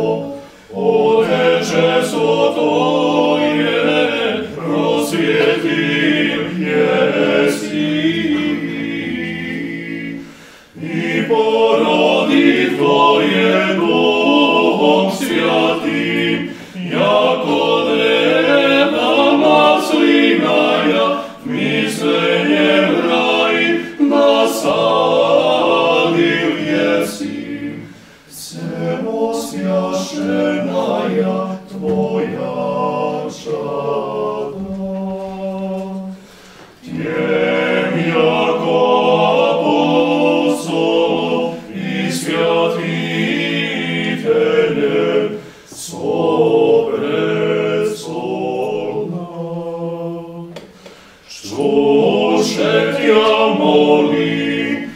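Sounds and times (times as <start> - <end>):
male ensemble singing a cappella: 0.0 - 54.9.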